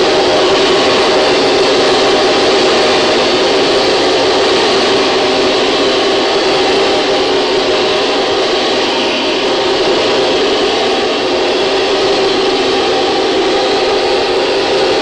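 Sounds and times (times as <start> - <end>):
loud machine-like drone: 0.0 - 15.0.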